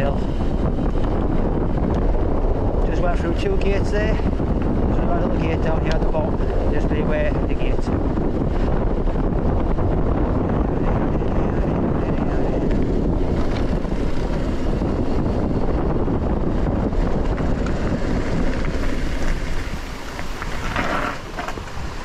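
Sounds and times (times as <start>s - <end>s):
bike tyres rolling on rough track: 0.0s - 22.0s
wind buffeting microphone: 0.0s - 22.0s.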